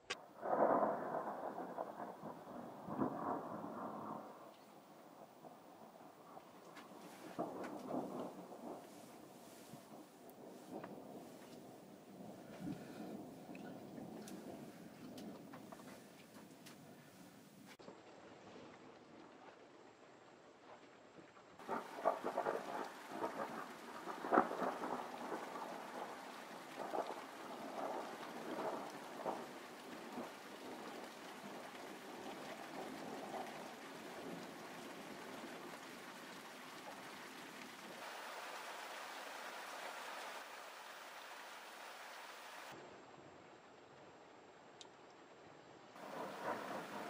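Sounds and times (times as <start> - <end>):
rain hissing: 0.0 - 17.8, 21.6 - 42.9, 46.0 - 47.0.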